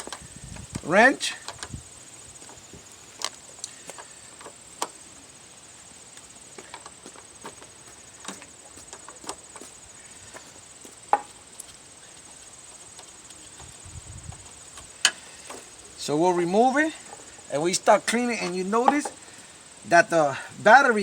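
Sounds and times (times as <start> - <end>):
high insect trill: 0.0 - 21.0.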